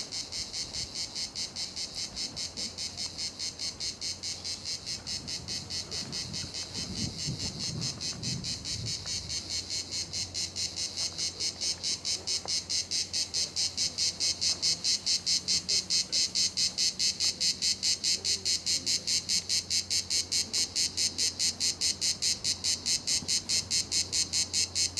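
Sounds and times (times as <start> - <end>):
cicadas singing: 0.0 - 24.9.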